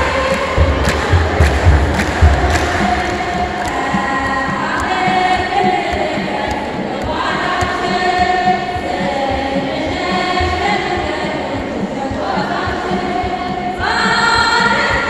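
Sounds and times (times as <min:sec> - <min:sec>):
drum beating: 0:00.0 - 0:15.0
women's choir singing a hymn: 0:00.0 - 0:15.0.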